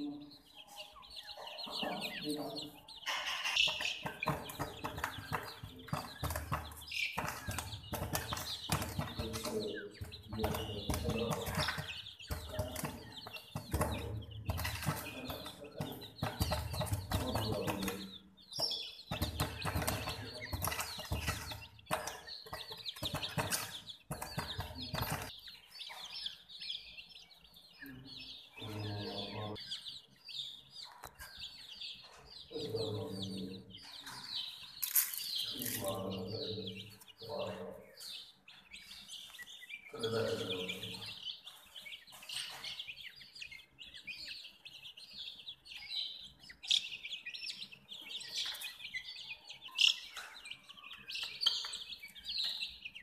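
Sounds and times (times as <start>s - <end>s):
baby chicks chirping: 0.0s - 53.0s.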